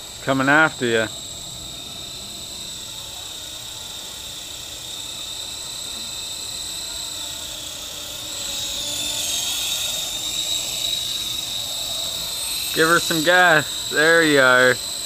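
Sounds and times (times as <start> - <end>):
toy helicopter motor whining: 0.0 - 15.0.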